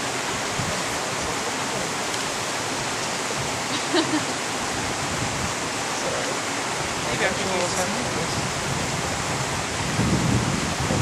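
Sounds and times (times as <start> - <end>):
fast-flowing stream rushing: 0.0 - 11.0.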